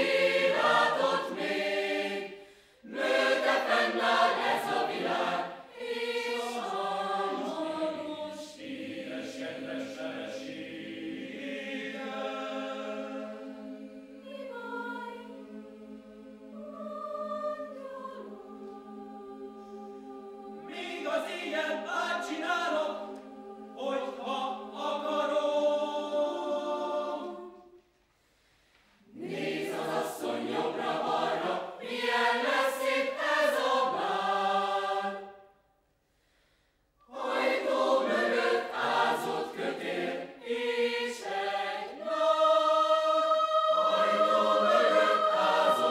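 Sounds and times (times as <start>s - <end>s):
choir singing a cappella: 0.0s - 27.9s, 28.9s - 35.7s, 37.0s - 45.9s.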